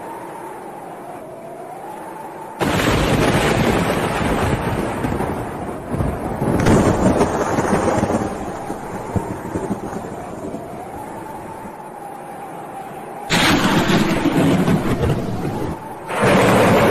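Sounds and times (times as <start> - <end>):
wind gusting against microphone: 0.0 - 16.9.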